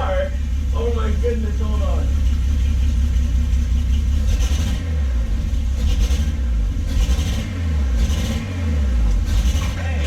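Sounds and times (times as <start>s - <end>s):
car engine deep rumble: 0.0s - 10.0s.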